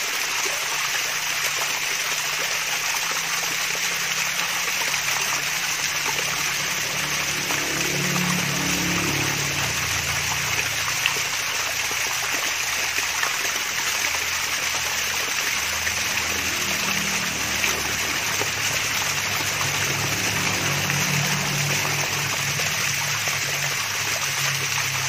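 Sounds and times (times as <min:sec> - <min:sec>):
water splashing down waterfall: 0:00.0 - 0:25.0
low hum: 0:04.8 - 0:24.8.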